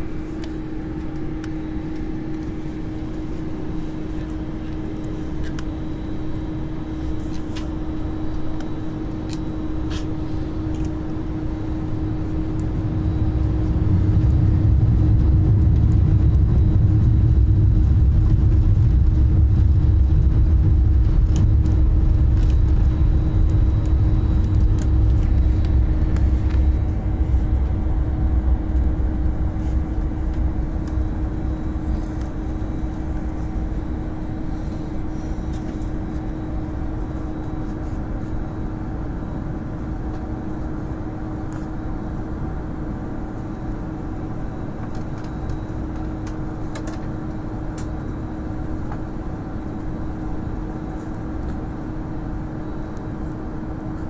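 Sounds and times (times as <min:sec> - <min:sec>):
jet engine rumble: 0:00.0 - 0:54.0
steady cabin hum: 0:00.0 - 0:54.0.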